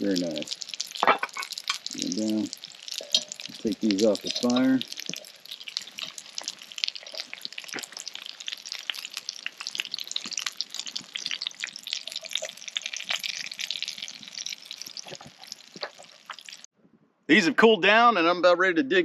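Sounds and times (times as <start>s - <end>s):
food sizzling with small pops: 0.0s - 16.7s.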